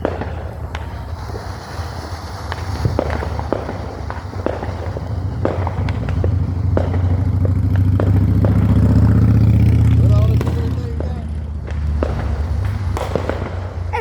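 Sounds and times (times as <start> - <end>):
fireworks popping and crackling: 0.0 - 14.0
vehicle engine running: 2.5 - 14.0.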